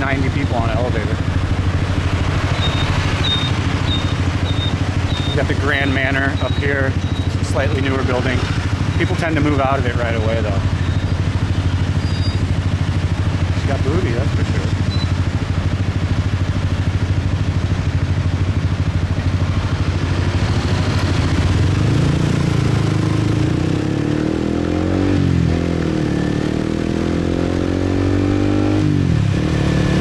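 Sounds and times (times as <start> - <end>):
motorbike engine accelerating: 0.0 - 30.0.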